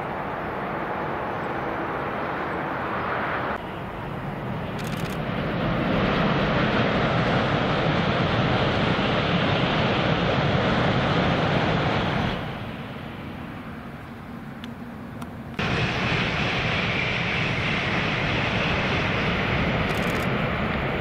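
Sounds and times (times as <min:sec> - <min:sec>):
steady rushing noise: 0:00.0 - 0:21.0
train passing at speed: 0:00.0 - 0:21.0.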